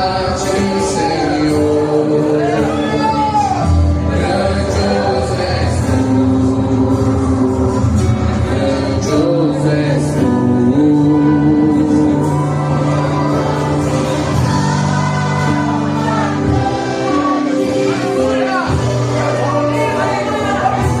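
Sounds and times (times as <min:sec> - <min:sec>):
gospel singing with accompaniment: 0:00.0 - 0:21.0.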